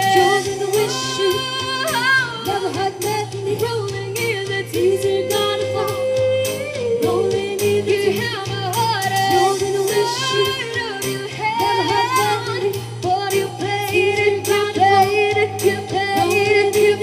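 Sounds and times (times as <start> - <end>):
band with steady beat: 0.0 - 17.0
person singing: 0.0 - 17.0.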